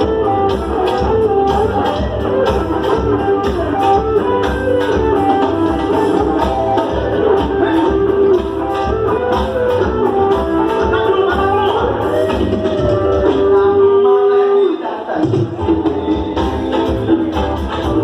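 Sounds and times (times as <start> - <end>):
percussion beat: 0.0 - 14.1, 15.2 - 18.0
band playing a song: 0.0 - 18.0.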